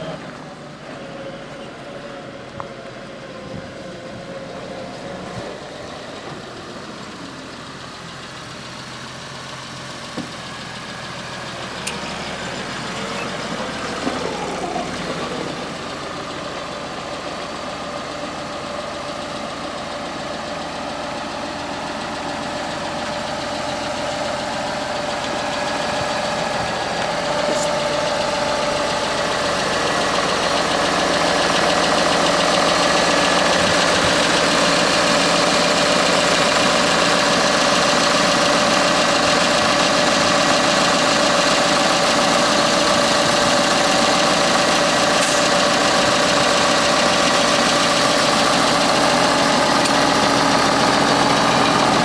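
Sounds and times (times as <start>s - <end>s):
tractor diesel engine: 0.0s - 52.0s.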